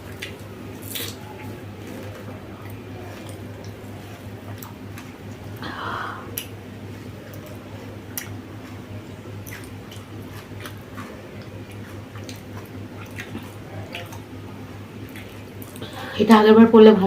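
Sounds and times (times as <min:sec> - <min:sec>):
person chewing crisp food: 0:00.0 - 0:05.6, 0:06.3 - 0:16.0
steady low hum: 0:00.0 - 0:17.0.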